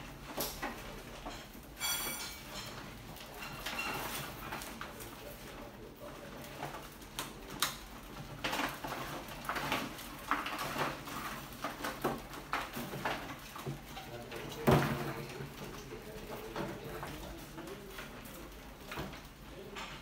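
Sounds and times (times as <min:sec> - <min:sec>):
rats scrabbling and scratching: 0:00.0 - 0:20.0.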